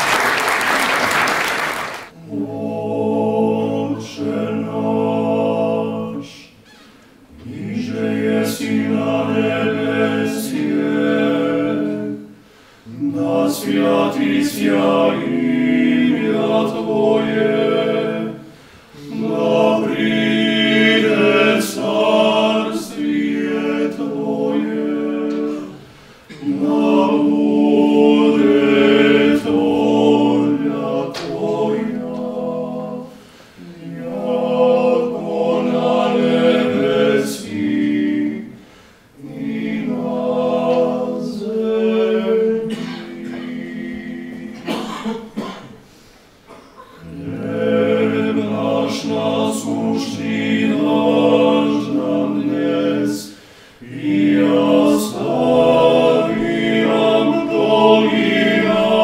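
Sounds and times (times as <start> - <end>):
male vocal quartet singing: 2.1 - 45.6, 46.8 - 59.0.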